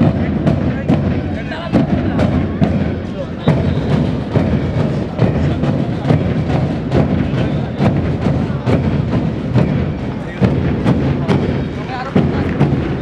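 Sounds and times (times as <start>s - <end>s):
parade marching music: 0.0s - 13.0s
steady drum beat: 0.0s - 13.0s.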